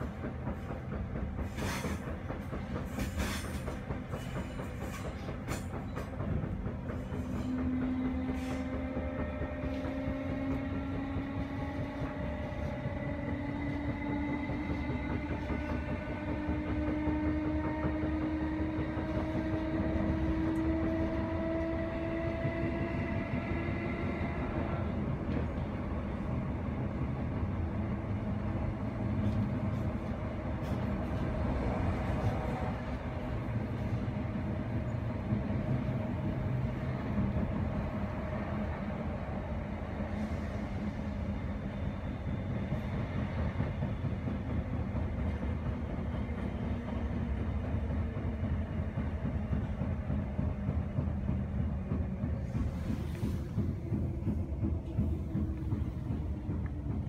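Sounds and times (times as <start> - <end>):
rumble of wheels on track: 0.0 - 57.0.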